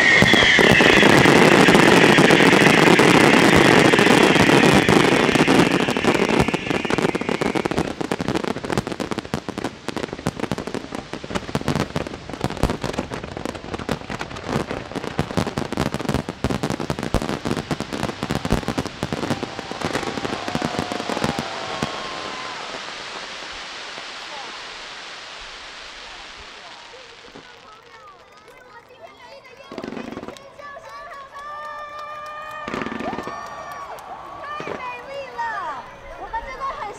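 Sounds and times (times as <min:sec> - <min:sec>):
fireworks crackling: 0:00.0 - 0:36.9.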